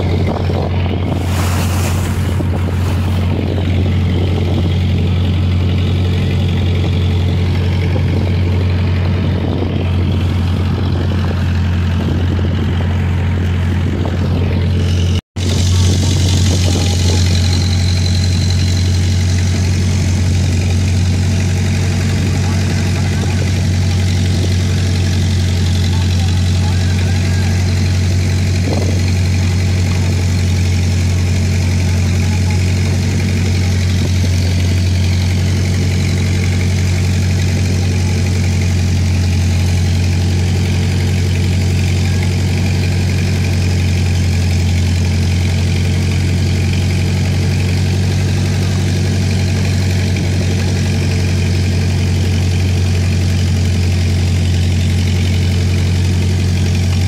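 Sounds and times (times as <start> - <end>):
boat engine idling: 0.0 - 57.0.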